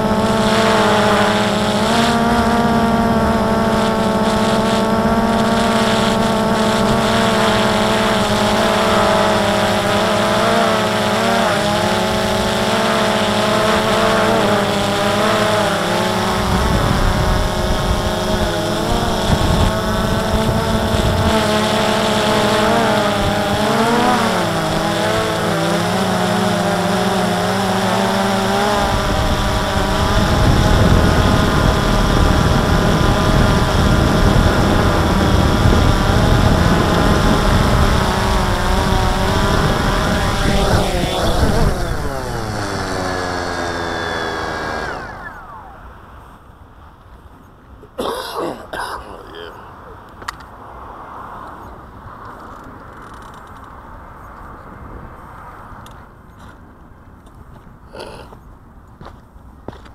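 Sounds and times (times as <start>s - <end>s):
drone motors whining: 0.0s - 48.2s.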